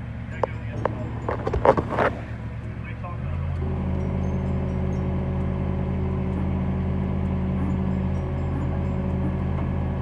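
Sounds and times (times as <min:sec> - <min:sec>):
engine humming steadily: 0:00.0 - 0:10.0.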